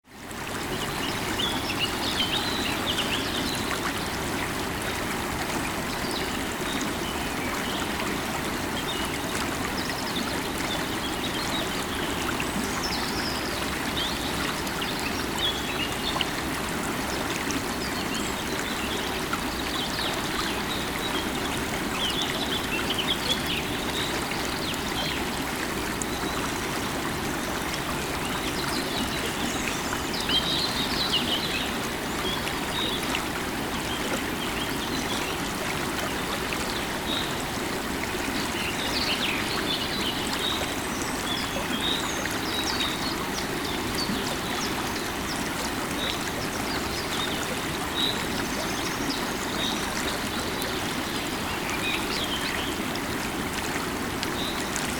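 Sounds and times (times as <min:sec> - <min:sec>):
river water over rocks: 0:00.0 - 0:54.9.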